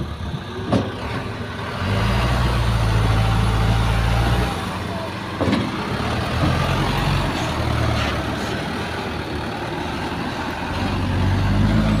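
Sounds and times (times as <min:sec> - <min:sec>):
diesel truck engine pulling away: 0:00.0 - 0:12.0.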